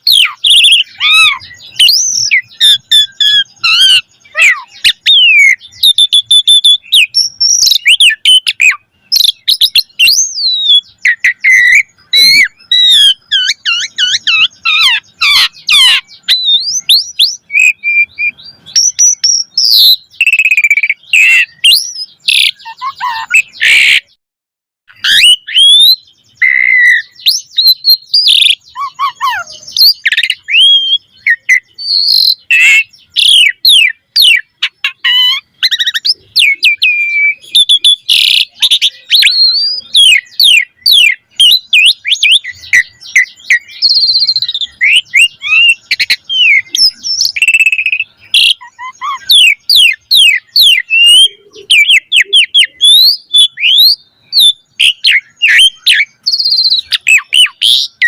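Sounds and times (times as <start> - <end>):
starling singing: 0.0 - 24.2, 24.9 - 58.0.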